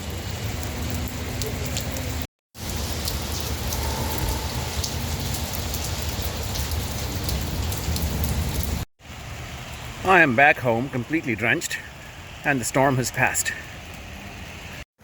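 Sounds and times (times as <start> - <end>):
rain on hard surfaces: 0.0 - 14.9.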